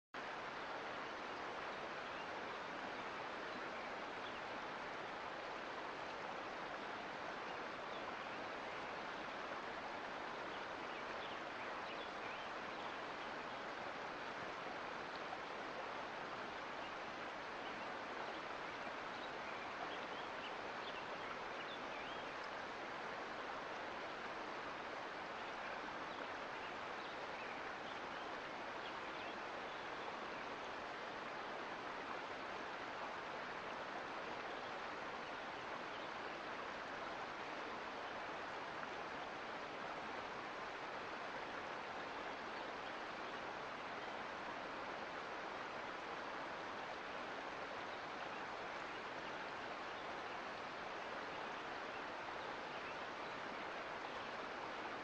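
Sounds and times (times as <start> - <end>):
creek water rushing: 0.2 - 55.0.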